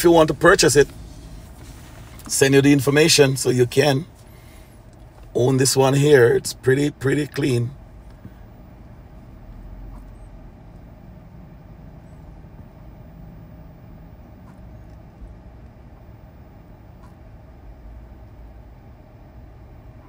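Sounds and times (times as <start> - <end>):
low room rumble: 0.0 - 20.0.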